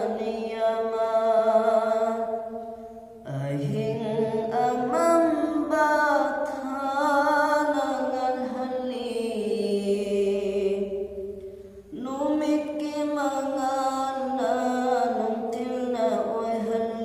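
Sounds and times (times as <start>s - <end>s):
man singing devotional chant: 0.0s - 2.6s, 3.2s - 11.0s, 11.9s - 17.0s.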